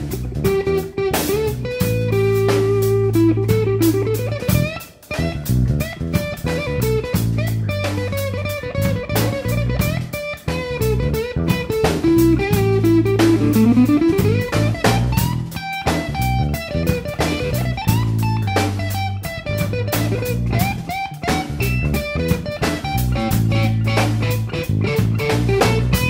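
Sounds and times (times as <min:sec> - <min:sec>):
bass: 0:00.0 - 0:26.0
drum kit beat: 0:00.0 - 0:26.0
guitar: 0:00.0 - 0:26.0.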